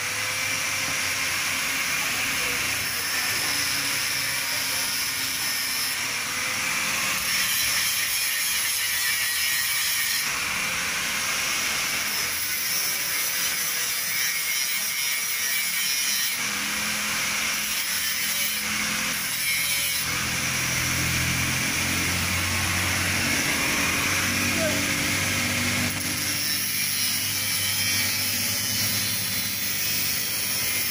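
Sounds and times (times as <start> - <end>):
angle grinder grinding metal: 0.0 - 30.9.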